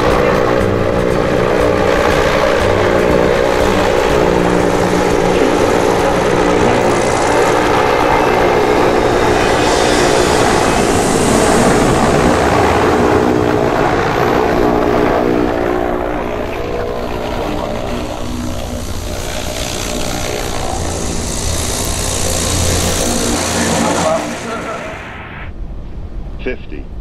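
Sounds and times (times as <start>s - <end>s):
airship propeller engines droning: 0.0s - 25.3s.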